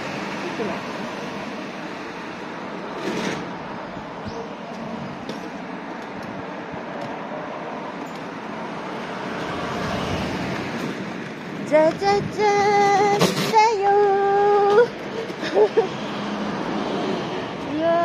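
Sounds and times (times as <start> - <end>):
road traffic rush: 0.0 - 18.0.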